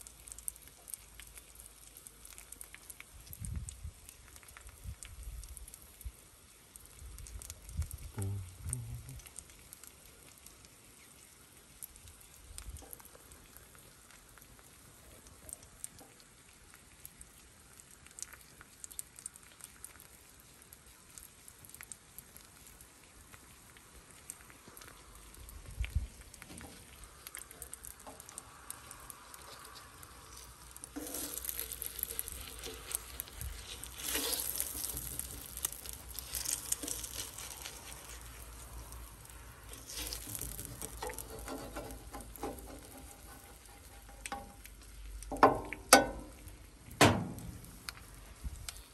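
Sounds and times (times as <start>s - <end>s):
eggs sizzling on a griddle: 0.0s - 48.9s.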